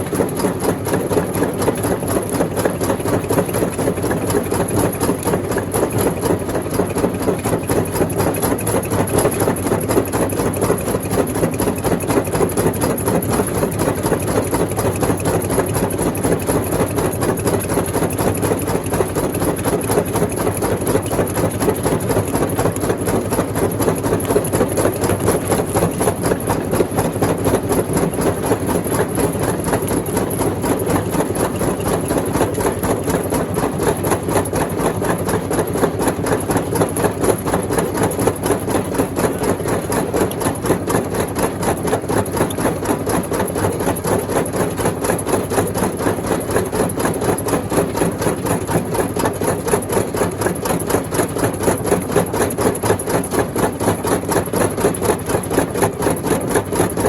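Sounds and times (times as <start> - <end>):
rock crushing machinery running: 0.0 - 57.0.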